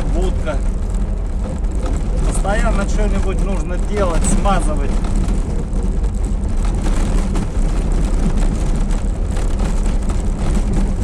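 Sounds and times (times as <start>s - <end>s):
body rattling and creaking: 0.0s - 11.0s
engine and road noise: 0.0s - 11.0s.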